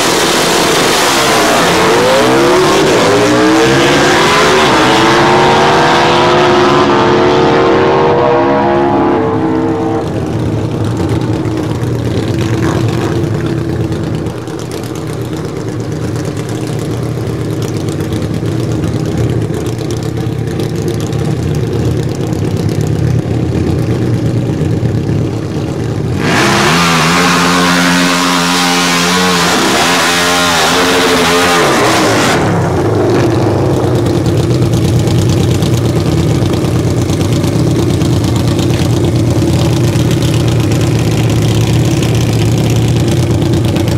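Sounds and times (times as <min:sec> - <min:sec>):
motorcycle engines revving hard: 0:00.0 - 0:43.9
motorcycle engines running: 0:00.0 - 0:43.9.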